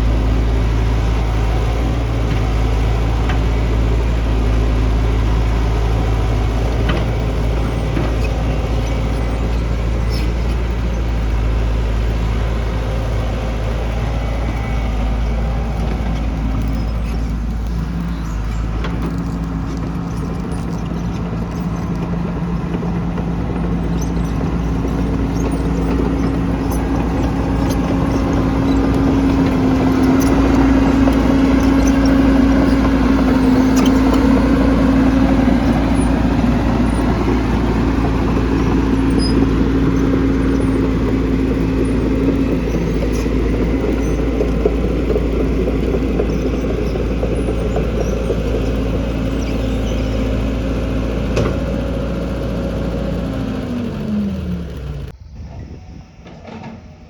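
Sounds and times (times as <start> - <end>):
construction machine engine: 0.0 - 57.0.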